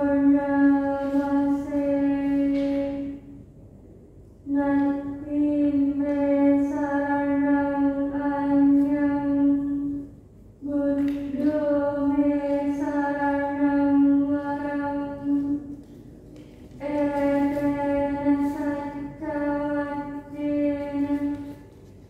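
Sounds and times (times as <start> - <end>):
woman chanting: 0.0 - 3.4, 4.4 - 15.9, 16.6 - 21.8.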